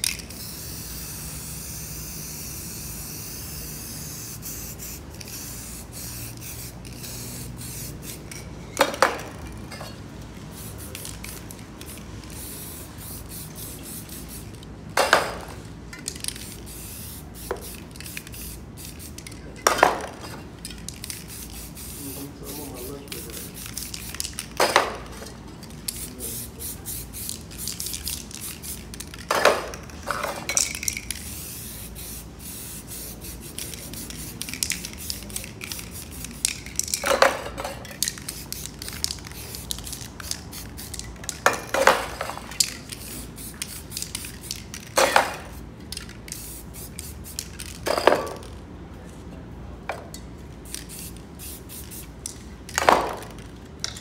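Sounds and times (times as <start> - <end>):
spray paint can hissing: 0.0 - 9.6, 10.4 - 48.6, 50.6 - 54.0.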